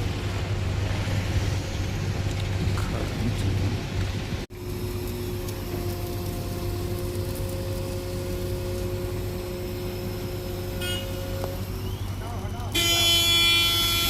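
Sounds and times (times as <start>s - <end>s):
construction machinery engine rumble: 0.0s - 14.0s.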